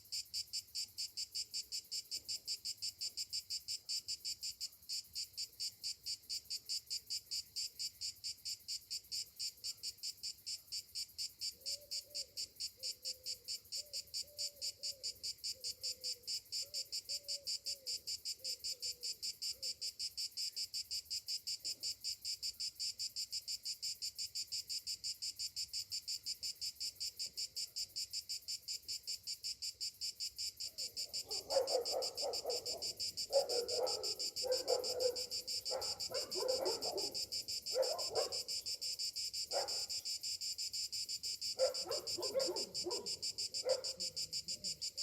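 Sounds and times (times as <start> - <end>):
cicadas calling: 0.0 - 45.0.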